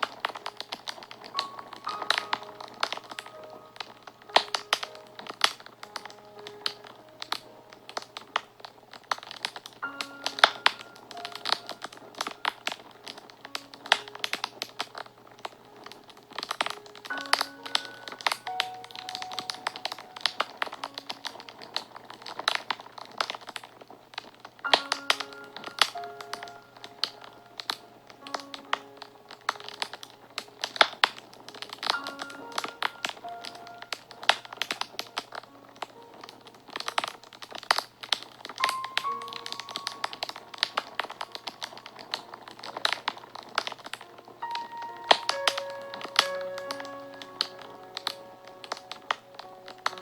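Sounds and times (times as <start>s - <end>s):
fire crackling and popping: 0.0s - 50.0s
soft background music: 0.0s - 50.0s.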